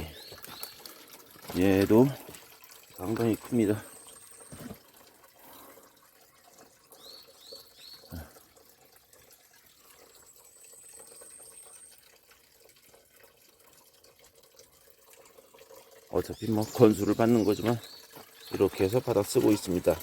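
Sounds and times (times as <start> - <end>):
stream water trickling: 0.0 - 20.0.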